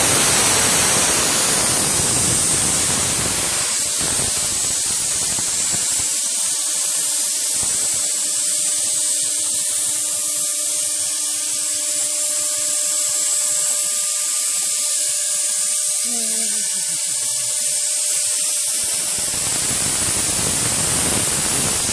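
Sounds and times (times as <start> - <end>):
router spindle cutting foam: 0.0 - 21.9.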